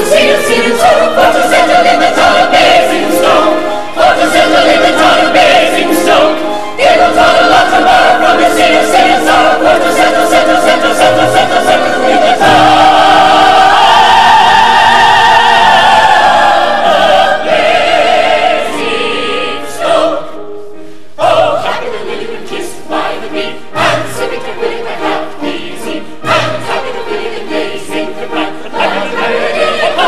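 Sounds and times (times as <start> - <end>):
cast and chorus singing: 0.0 - 20.5, 21.2 - 30.0.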